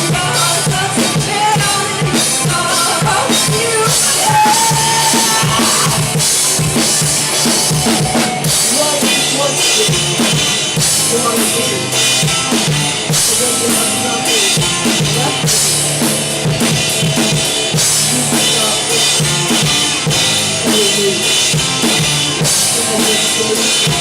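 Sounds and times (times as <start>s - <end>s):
drum kit beat: 0.0s - 24.0s
live band playing: 0.0s - 24.0s.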